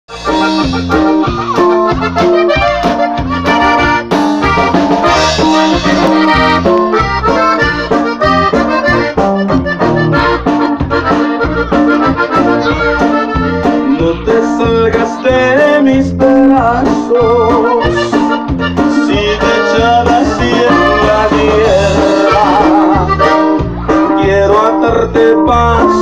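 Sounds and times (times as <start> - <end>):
accordion melody: 0.1 - 26.0
drum kit: 0.1 - 26.0
electric bass: 0.1 - 26.0.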